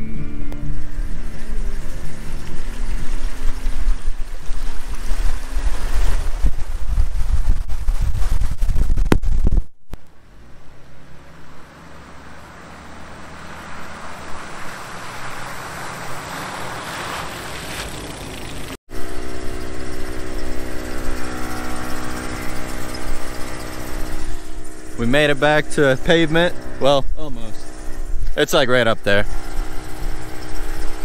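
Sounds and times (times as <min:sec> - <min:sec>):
car engine running: 0:00.0 - 0:31.0
road and wind rumble: 0:00.0 - 0:31.0.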